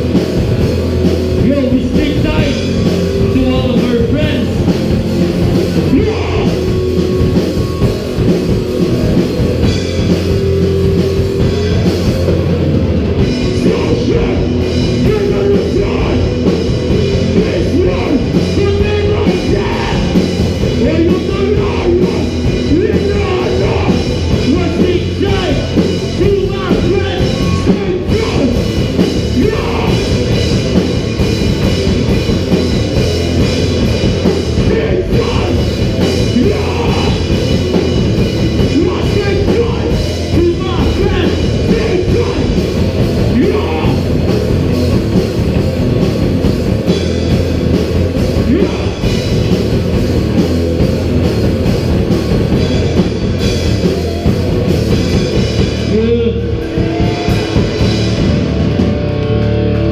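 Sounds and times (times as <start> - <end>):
drum kit: 0.0 - 59.9
electric guitars: 0.0 - 59.9
heavy metal band playing: 0.0 - 59.9.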